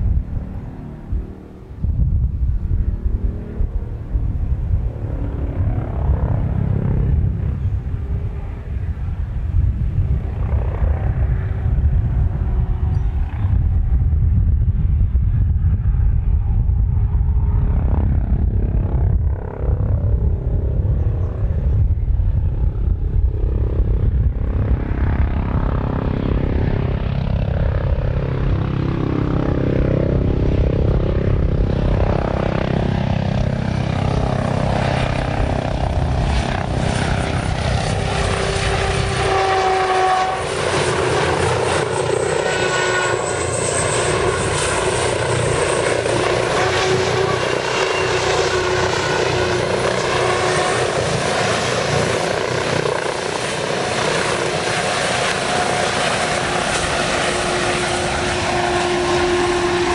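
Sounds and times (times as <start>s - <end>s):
helicopter in flight: 0.0s - 59.9s.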